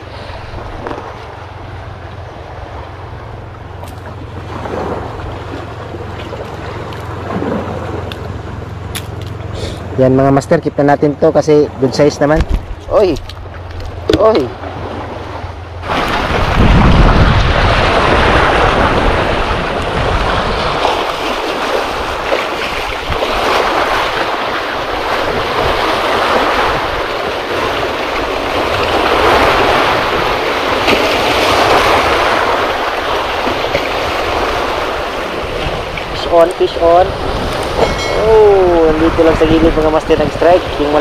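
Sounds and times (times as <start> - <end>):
sea waves breaking on rocks: 0.0 - 41.0
wind rumble on microphone: 0.0 - 41.0.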